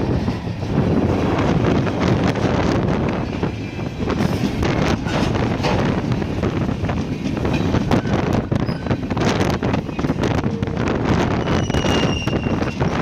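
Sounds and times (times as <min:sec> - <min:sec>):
rail clicks: 0:00.0 - 0:13.0
train rumbling past: 0:00.0 - 0:13.0
wind buffeting microphone: 0:00.0 - 0:13.0.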